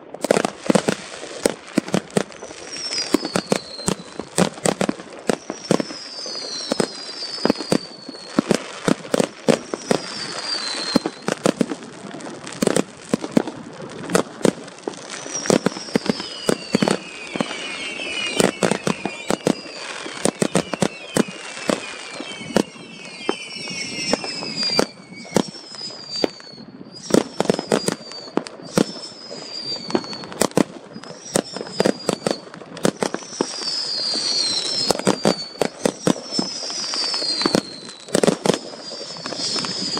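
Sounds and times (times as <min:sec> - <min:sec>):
fireworks bangs and crackles: 0:00.0 - 0:39.9
whistling fireworks: 0:00.0 - 0:39.9.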